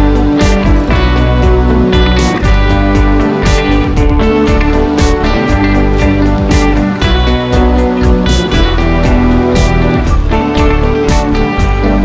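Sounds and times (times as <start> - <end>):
strummed guitar music with beat: 0.0 - 12.0.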